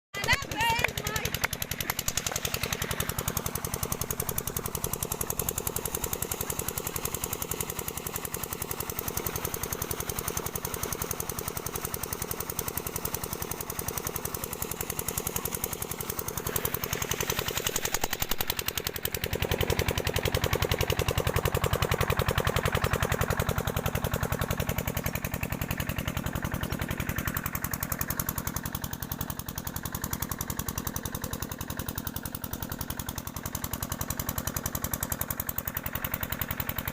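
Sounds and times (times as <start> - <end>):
engine running with rapid beat: 0.2 - 36.9.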